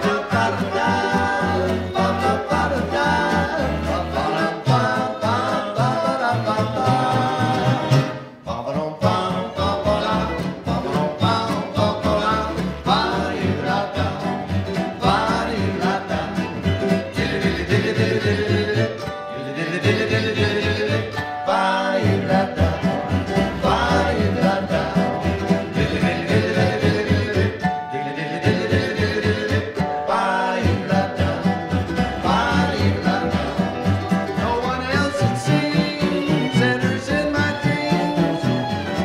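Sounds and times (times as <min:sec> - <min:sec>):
acoustic guitar: 0:00.0 - 0:39.0
dobro sliding melody: 0:00.0 - 0:39.0
mandolin: 0:00.0 - 0:39.0.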